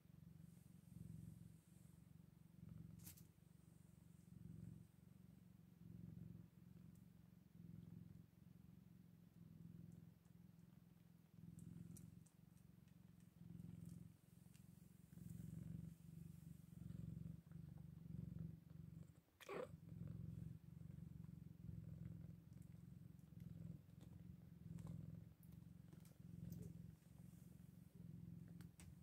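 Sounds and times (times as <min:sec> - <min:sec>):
cat purring softly: 0:00.0 - 0:29.0.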